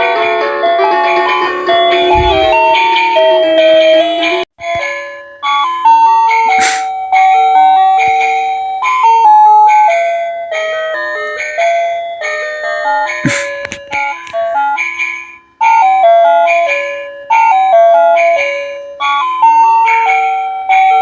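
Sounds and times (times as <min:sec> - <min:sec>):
tinny electronic christmas melody: 0:00.0 - 0:21.0.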